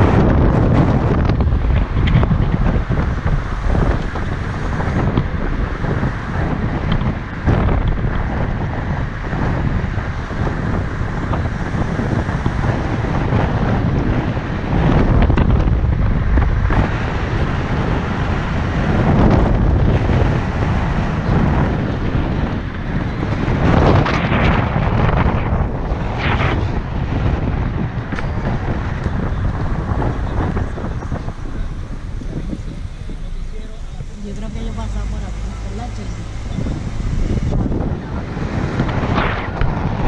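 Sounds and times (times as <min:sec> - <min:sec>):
car road noise: 0:00.0 - 0:40.0
wind buffeting microphone: 0:00.0 - 0:40.0.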